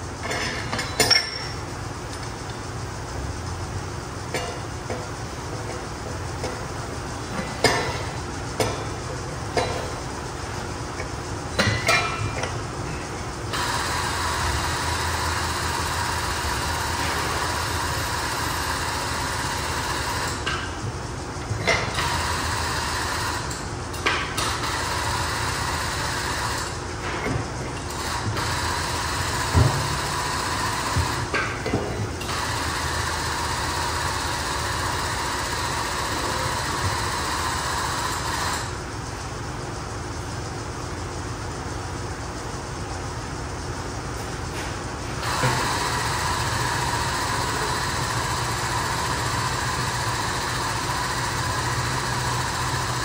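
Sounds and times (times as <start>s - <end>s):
hydraulic pump running: 0.0s - 53.0s.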